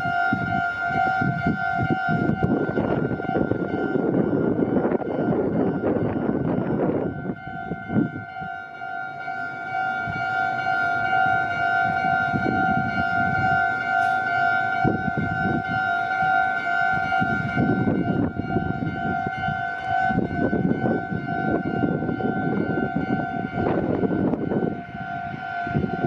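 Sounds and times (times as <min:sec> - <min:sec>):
level-crossing warning bell: 0:00.0 - 0:26.0.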